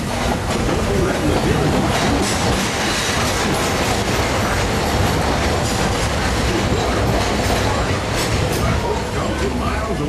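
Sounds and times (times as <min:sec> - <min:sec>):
rail joints clacking: 0:00.0 - 0:10.0
train wheels rumbling on track: 0:00.0 - 0:10.0.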